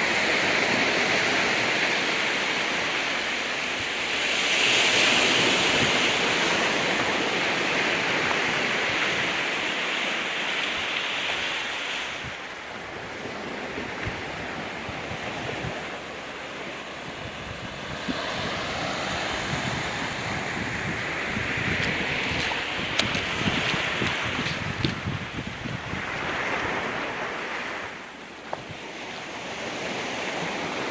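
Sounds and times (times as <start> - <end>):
waves washing onto rocky beach: 0.0 - 30.9
wind buffeting microphone: 3.8 - 30.9.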